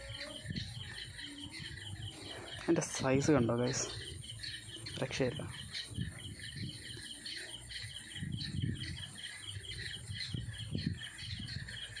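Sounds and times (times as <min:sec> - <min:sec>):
pulsing insect chirps: 0:00.0 - 0:12.0.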